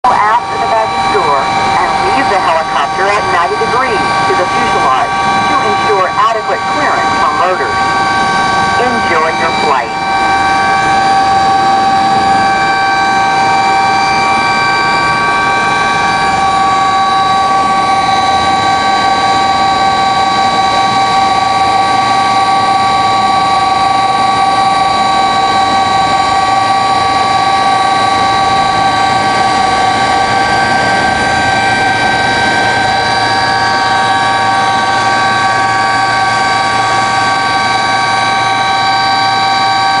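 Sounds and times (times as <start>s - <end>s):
helicopter turbine and rotor drone: 0.0s - 40.0s
high whining tones: 0.0s - 40.0s.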